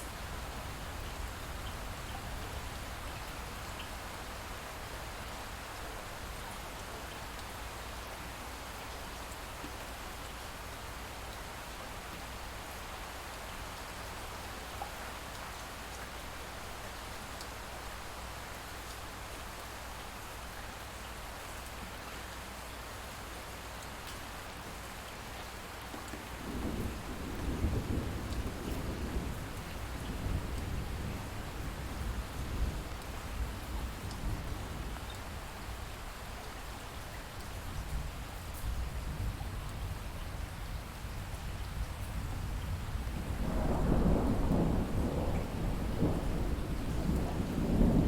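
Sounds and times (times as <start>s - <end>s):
light steady rain: 0.0s - 48.0s.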